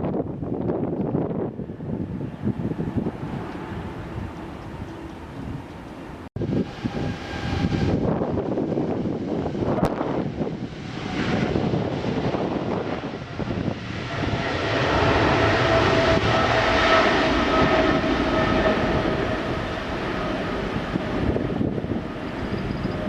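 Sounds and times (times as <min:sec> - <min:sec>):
jet airliner rumbling: 0:00.0 - 0:23.0
multi-tone engine whine: 0:01.1 - 0:23.0.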